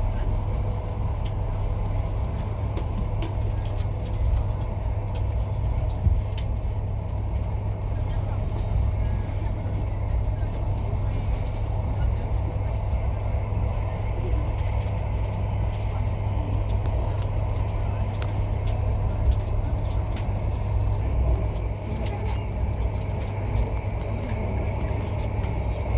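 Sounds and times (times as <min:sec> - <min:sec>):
vehicle rumbling along road: 0:00.0 - 0:25.9.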